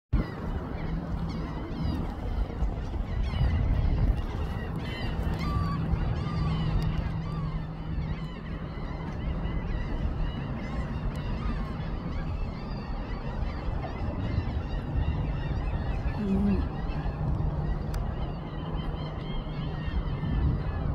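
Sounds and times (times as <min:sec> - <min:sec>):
low background rumble: 0:00.2 - 0:20.9.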